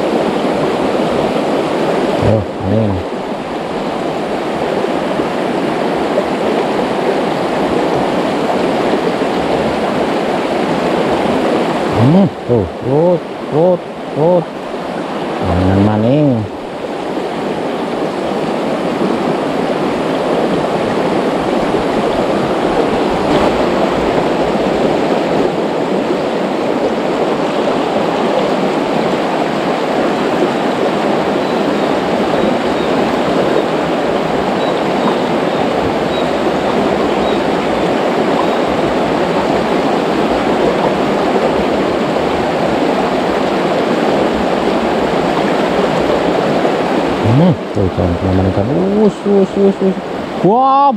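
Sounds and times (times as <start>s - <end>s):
river rushing over rocks: 0.0s - 50.9s.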